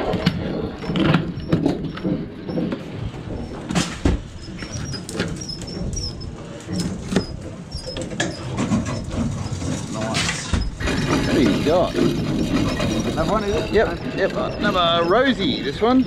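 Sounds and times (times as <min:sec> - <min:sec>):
boat machinery droning: 0:00.0 - 0:16.0.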